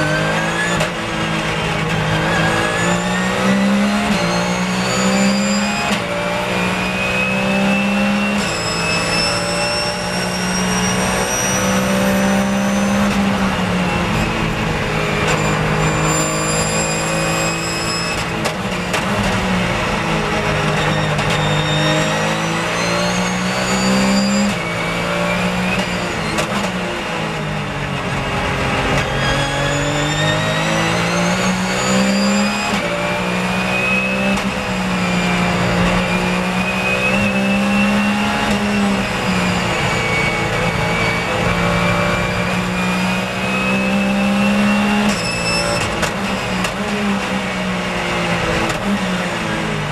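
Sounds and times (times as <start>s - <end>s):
race car engine revving: 0.0s - 49.9s.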